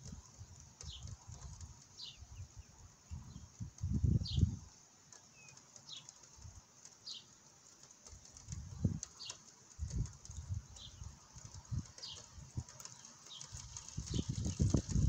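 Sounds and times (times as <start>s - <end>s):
bird chirping: 0.3s - 6.4s, 7.0s - 7.4s, 8.3s - 14.8s.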